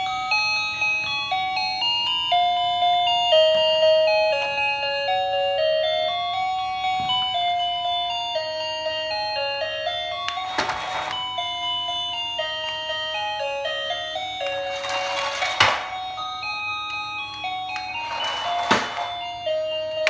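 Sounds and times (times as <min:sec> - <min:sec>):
tinny electronic toy melody: 0:00.0 - 0:20.0.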